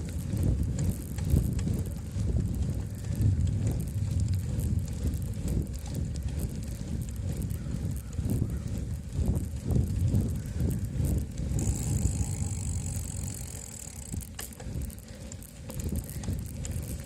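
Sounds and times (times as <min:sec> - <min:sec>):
bicycle tyres rumbling: 0:00.0 - 0:17.0
wind buffeting microphone: 0:00.0 - 0:17.0.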